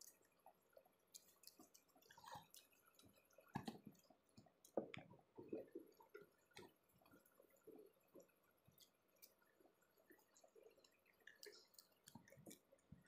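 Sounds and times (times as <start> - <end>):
chewing: 0.0 - 13.0
wet squishing of fingers in rice: 0.0 - 13.0.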